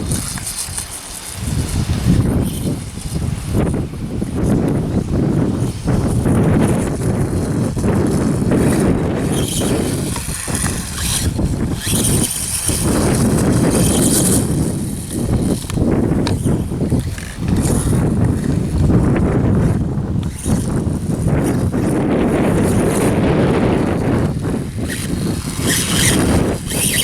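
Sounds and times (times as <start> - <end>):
electric motor whine: 0.0 - 27.0
wind buffeting microphone: 0.0 - 27.0.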